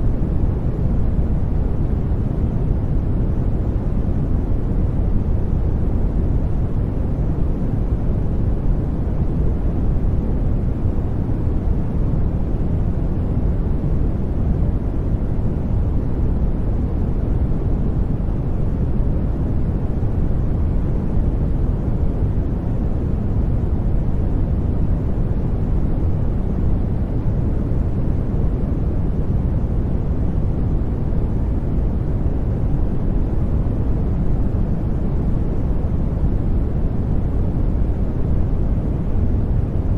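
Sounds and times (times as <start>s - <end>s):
brown noise hiss: 0.0s - 39.9s.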